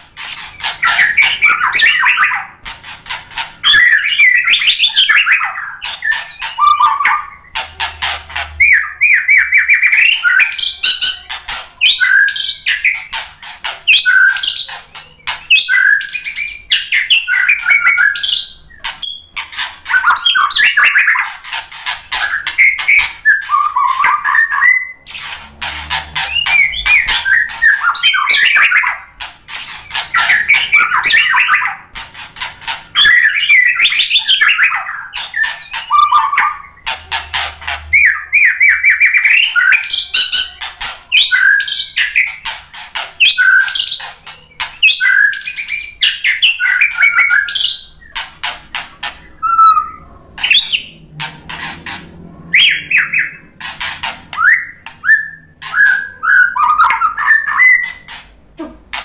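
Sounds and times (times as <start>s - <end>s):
songbird singing whistles and rattles: 0.0s - 59.0s.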